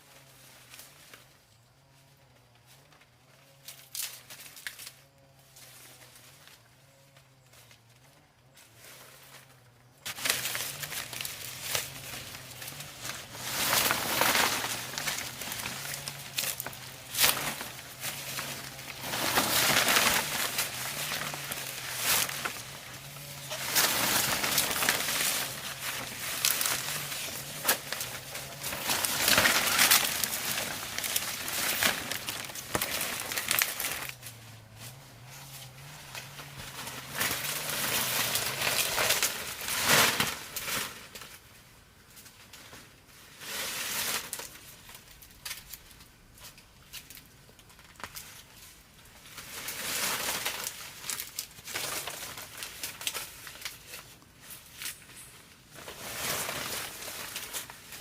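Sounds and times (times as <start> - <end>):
rustling and crunching handling: 0.0 - 58.0.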